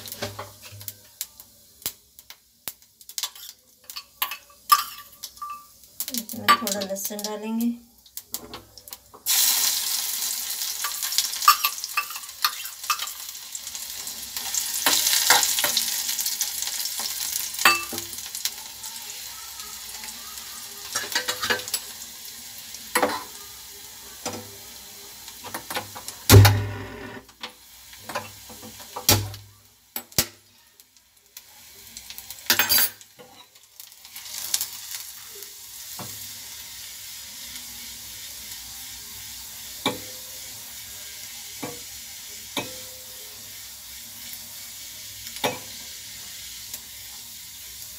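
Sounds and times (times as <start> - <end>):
spices sizzling in hot oil: 0.0 - 47.9.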